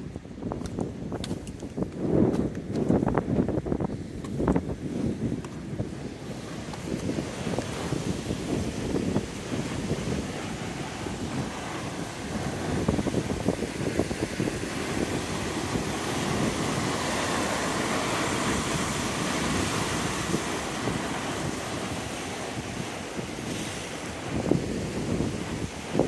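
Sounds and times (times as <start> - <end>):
wind buffeting microphone: 0.0 - 26.0
surf breaking over rocks: 4.2 - 26.0.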